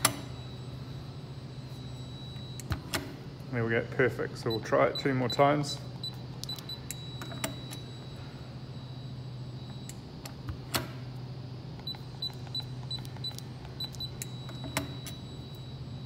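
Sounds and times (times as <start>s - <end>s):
long lock beep: 0.0s - 3.4s, 4.4s - 11.2s, 11.8s - 16.0s.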